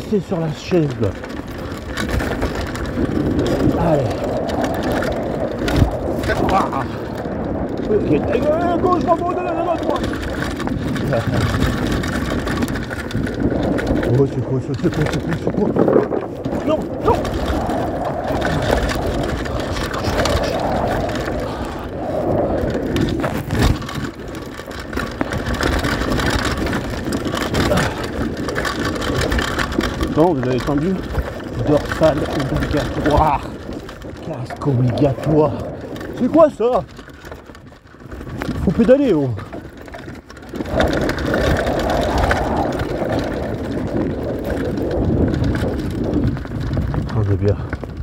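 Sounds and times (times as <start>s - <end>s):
bike rattling and knocking: 0.0s - 48.0s
bike tyres rumbling over dirt: 0.0s - 48.0s.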